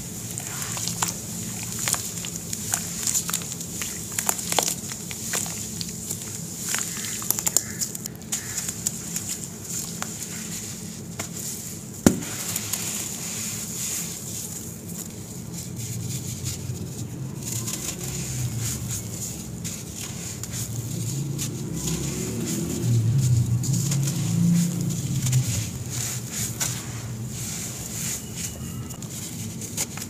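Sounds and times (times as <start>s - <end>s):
hands crumbling cement paste: 0.0s - 30.0s.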